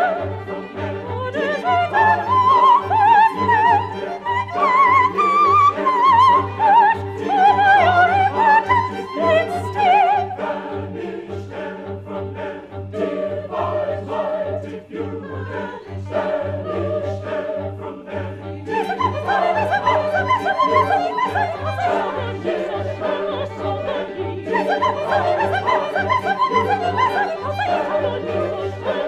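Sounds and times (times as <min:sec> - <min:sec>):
operatic singing with vibrato: 0:00.0 - 0:29.0
orchestral accompaniment: 0:00.0 - 0:29.0.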